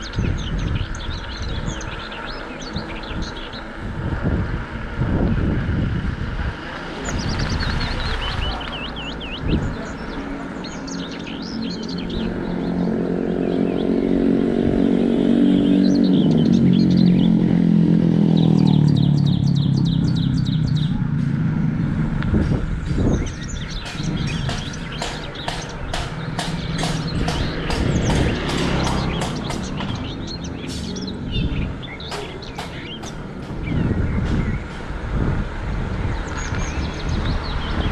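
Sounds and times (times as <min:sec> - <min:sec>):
small birds chirping: 0:00.0 - 0:04.5, 0:05.1 - 0:37.9
motor vehicle passing: 0:00.0 - 0:37.9.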